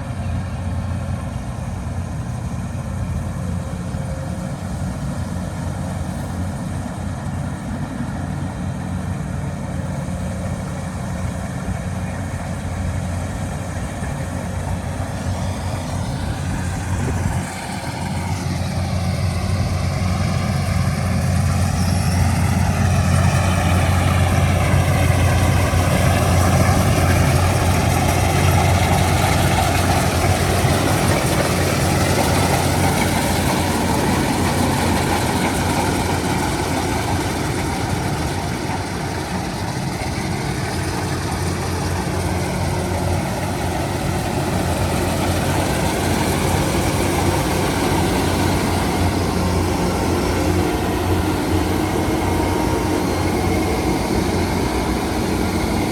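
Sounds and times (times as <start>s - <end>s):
engine humming: 0.0s - 55.9s.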